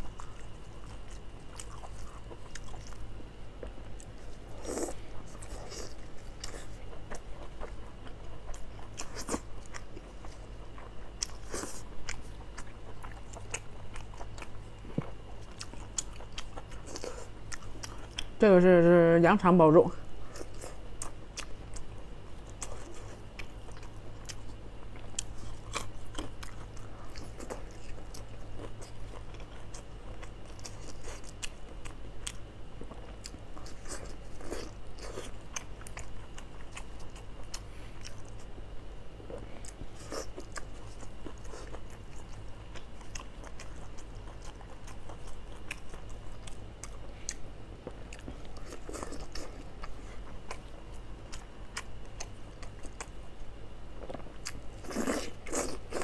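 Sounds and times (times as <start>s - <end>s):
chewing and biting: 0.0s - 18.4s, 20.2s - 56.0s
steady low hum: 0.0s - 56.0s.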